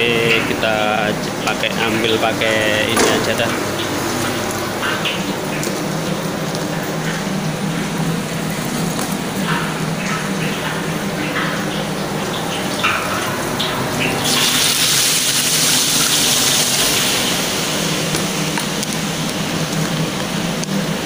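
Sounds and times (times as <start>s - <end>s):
chicken sizzling in hot oil: 3.8s - 21.0s.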